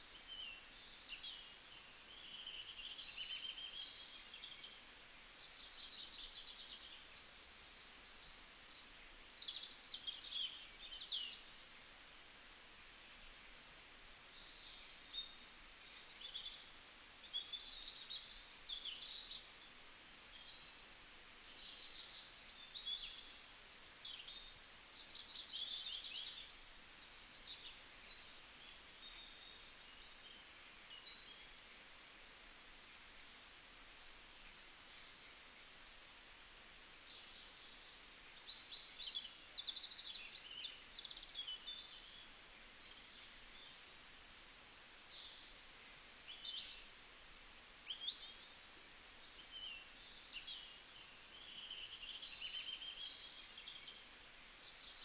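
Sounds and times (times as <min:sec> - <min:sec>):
soft steady hiss: 0:00.0 - 0:55.0.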